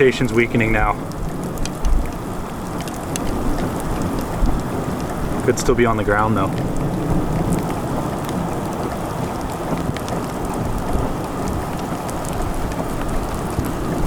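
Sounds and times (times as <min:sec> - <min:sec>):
heavy rain falling: 0:00.0 - 0:14.0
raindrops ticking on a surface: 0:00.0 - 0:14.0.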